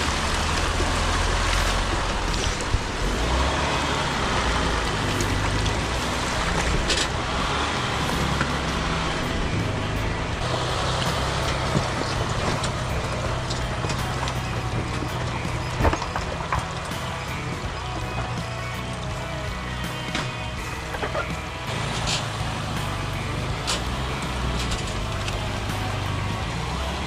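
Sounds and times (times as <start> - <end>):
diesel engine low drone: 0.0 - 27.0
tyres knocking over rocks: 0.0 - 27.0
tyres sloshing through muddy water: 0.0 - 27.0.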